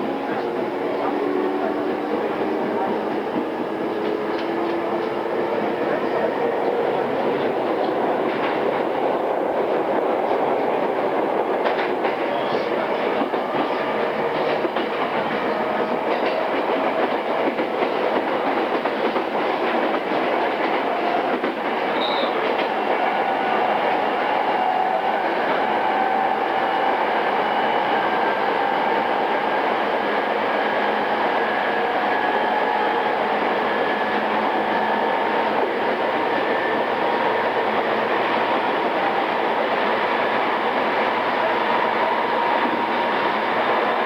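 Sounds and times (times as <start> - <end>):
train wheels clicking over rail joints: 0.0 - 44.0.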